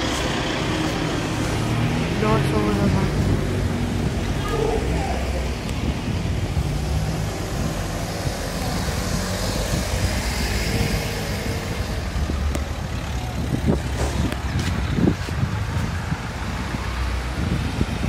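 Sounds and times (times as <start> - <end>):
low street rumble: 0.0 - 18.0.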